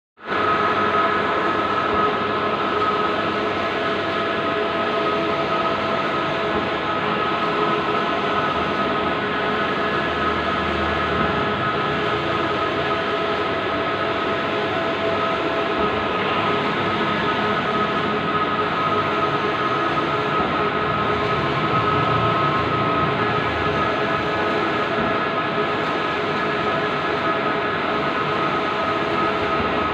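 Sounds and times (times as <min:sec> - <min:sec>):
high steady whines: 0:00.2 - 0:29.9
printer mechanical whir: 0:00.3 - 0:29.9.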